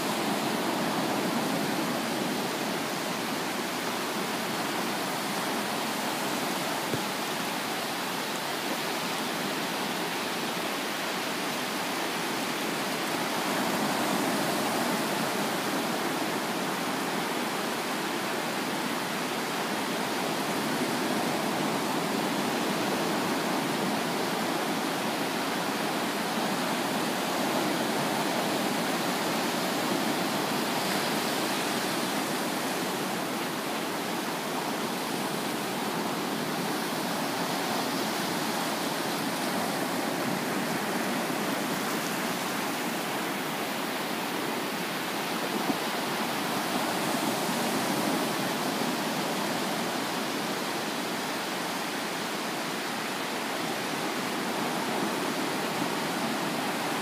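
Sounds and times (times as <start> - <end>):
ocean surf washing up beach: 0.0 - 57.0.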